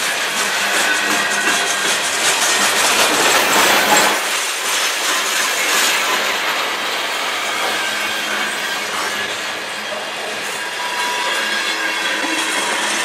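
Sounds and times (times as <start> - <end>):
train wheels rumbling on rails: 0.0 - 13.0
wheels clicking over rail joints: 0.0 - 13.0.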